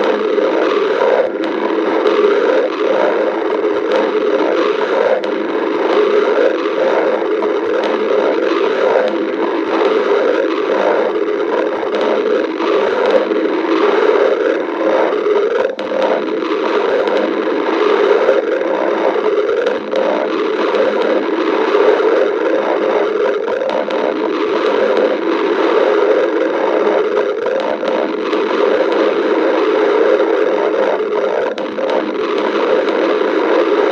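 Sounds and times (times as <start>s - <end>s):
stomach growling: 0.0s - 33.9s.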